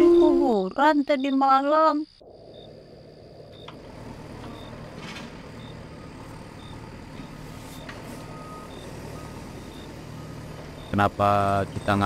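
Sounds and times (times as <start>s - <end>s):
pickup truck engine running: 2.2s - 12.0s.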